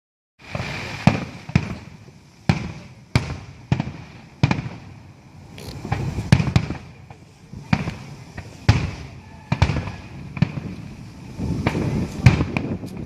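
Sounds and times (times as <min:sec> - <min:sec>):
fireworks exploding: 0:00.4 - 0:13.0.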